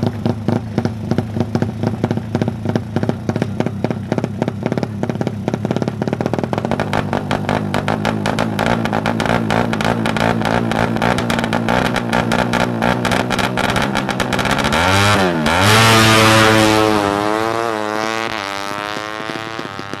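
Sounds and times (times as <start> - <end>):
motorcycle revving: 0.0 - 20.0.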